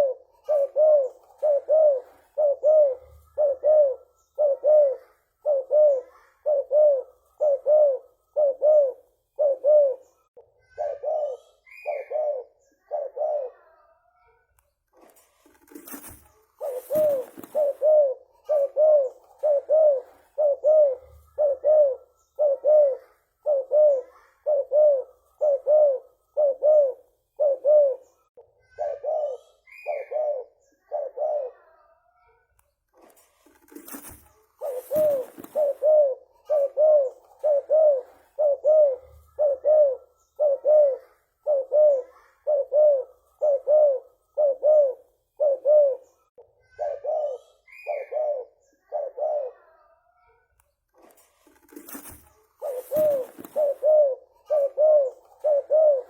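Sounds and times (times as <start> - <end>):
dove cooing: 0.0 - 13.9, 15.5 - 32.0, 33.4 - 50.0, 51.0 - 56.0.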